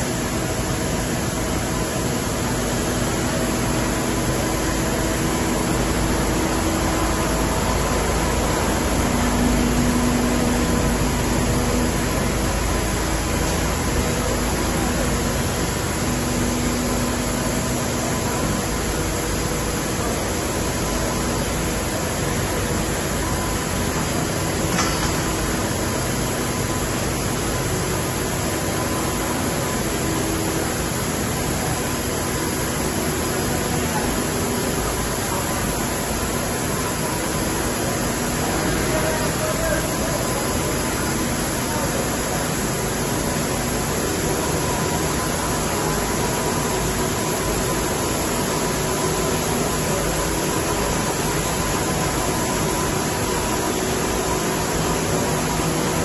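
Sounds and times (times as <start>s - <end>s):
factory machinery hiss and hum: 0.0s - 56.0s.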